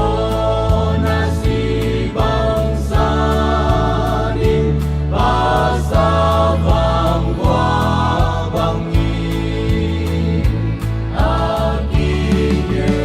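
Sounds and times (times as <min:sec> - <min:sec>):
song with vocals and beat: 0:00.0 - 0:13.0.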